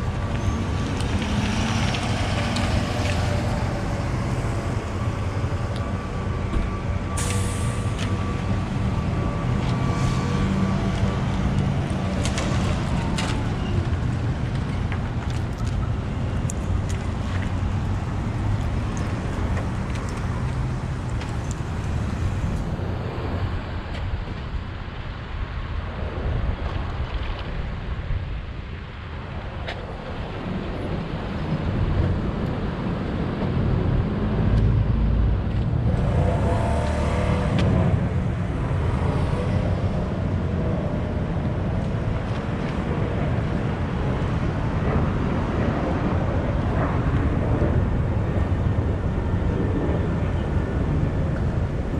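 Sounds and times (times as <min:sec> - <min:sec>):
cars passing: 0:00.0 - 0:25.6, 0:29.4 - 0:51.9.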